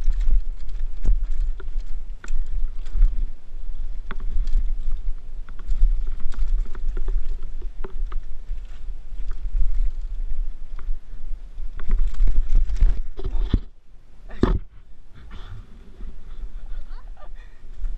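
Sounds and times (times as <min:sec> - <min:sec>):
bike rattling over rocks: 0:00.0 - 0:14.7
wind and riding noise: 0:00.0 - 0:17.9.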